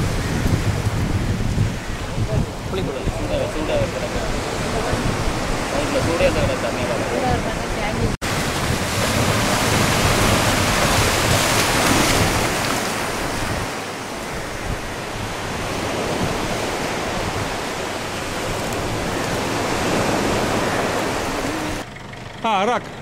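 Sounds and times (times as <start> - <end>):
sea surf breaking: 0.0 - 21.8
wind on microphone: 0.0 - 21.8.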